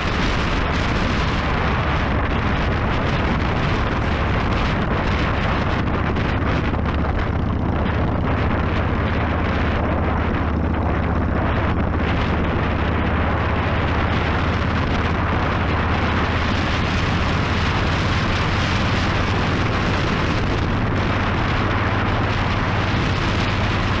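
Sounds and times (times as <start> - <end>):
motorcycle engine drone: 0.0 - 24.0
wind rush on microphone: 0.0 - 24.0.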